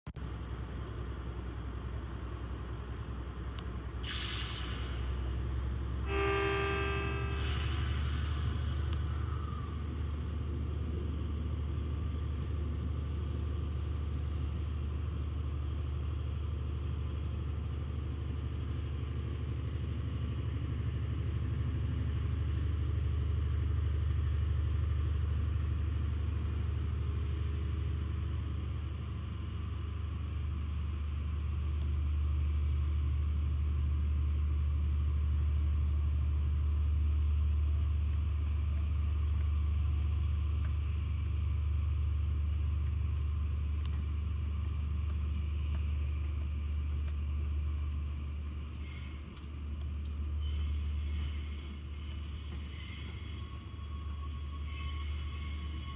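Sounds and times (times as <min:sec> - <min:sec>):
diesel train engine rumbling: 0:00.1 - 0:55.9.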